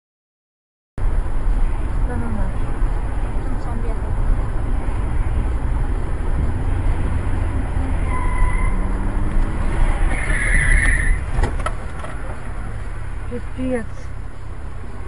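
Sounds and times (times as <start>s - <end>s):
car cabin engine and tyre rumble: 1.0s - 15.0s.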